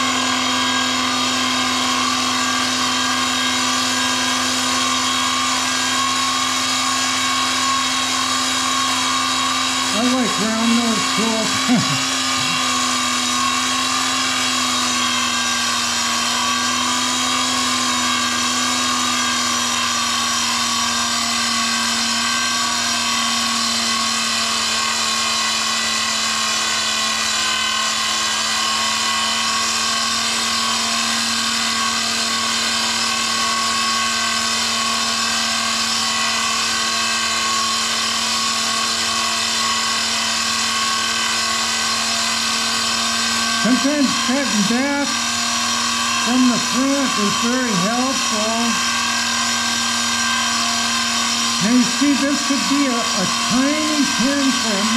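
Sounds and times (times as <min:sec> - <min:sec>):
lathe motor whine: 0:00.0 - 0:54.9.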